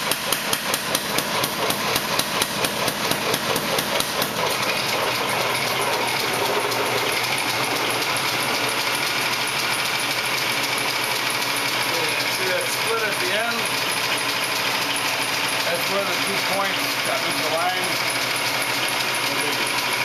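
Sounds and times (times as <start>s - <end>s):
mechanical running noise: 0.0s - 20.0s.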